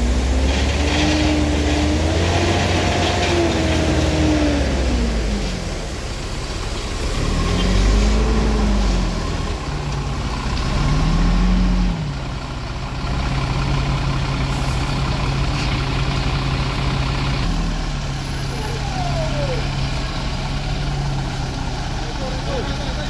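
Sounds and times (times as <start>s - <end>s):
truck diesel engine revving: 0.0s - 23.0s.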